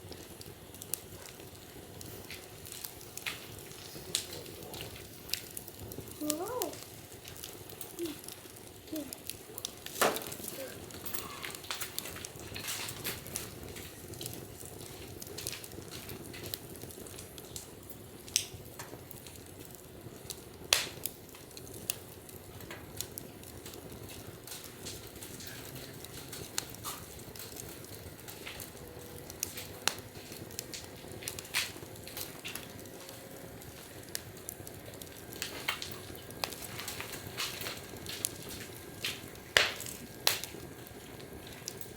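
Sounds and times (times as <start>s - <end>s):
burning wood crackling and popping: 0.0s - 41.9s
fire hissing: 0.0s - 41.9s.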